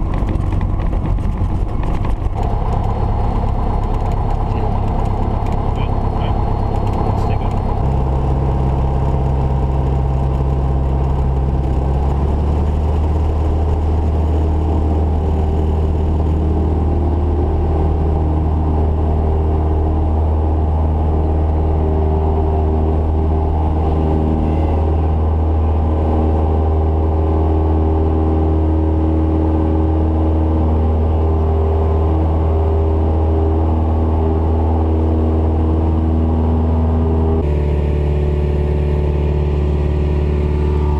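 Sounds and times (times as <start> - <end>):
plane engine droning in cabin: 0.0 - 40.9.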